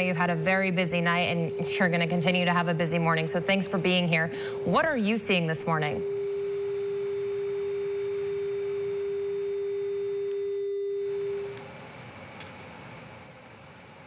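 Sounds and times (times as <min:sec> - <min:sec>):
telephone line tone: 0:00.0 - 0:11.6.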